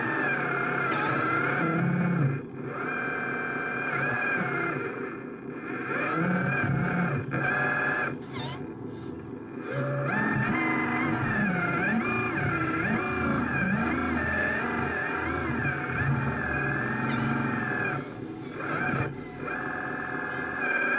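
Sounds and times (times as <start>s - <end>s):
small electric motors whining: 0.0s - 20.9s.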